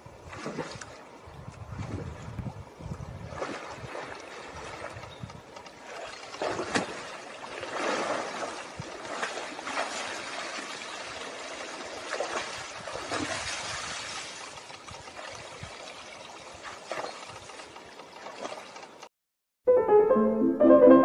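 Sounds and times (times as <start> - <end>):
animal wading through water: 0.0 - 19.1
creek water trickling: 0.2 - 19.1.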